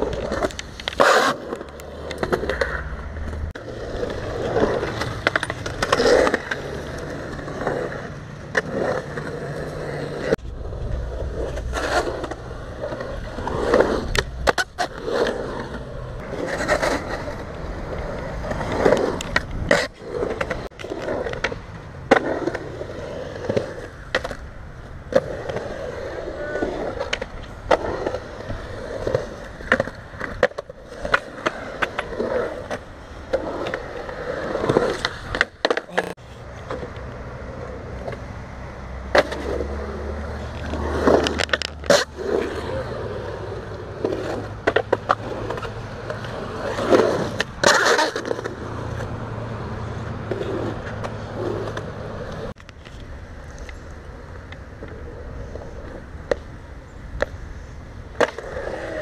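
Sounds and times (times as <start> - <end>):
skateboard wheels rolling on concrete: 0.0 - 59.0.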